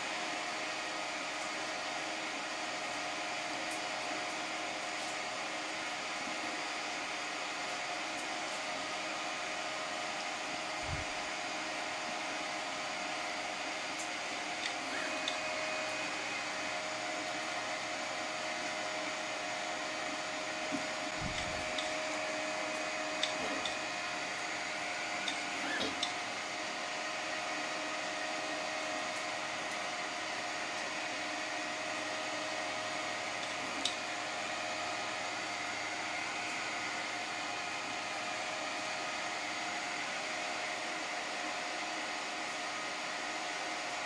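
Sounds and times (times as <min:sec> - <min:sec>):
fans whirring: 0:00.0 - 0:44.0
printer motor hum: 0:00.0 - 0:44.0.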